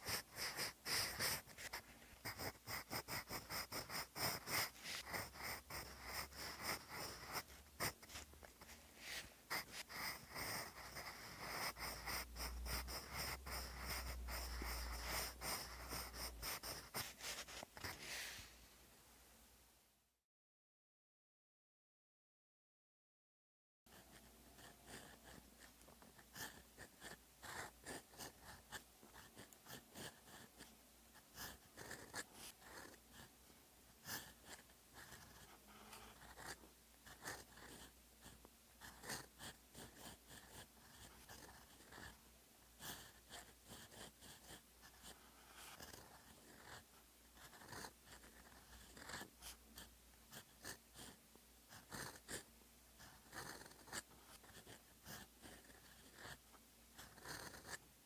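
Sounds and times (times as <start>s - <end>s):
pen scratching on paper: 0.0s - 18.5s, 23.9s - 33.3s, 34.0s - 42.2s, 42.8s - 57.8s.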